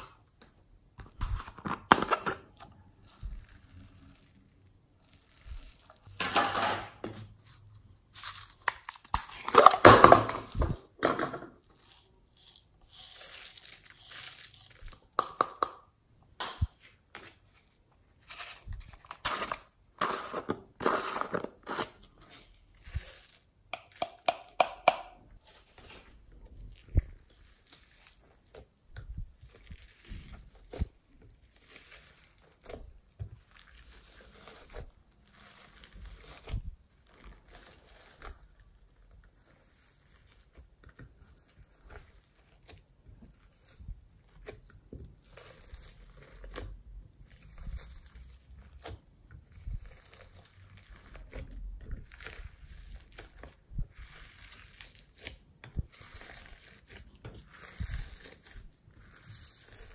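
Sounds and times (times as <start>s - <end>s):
slime squishing with crackles: 2.4s - 6.2s, 7.2s - 59.9s.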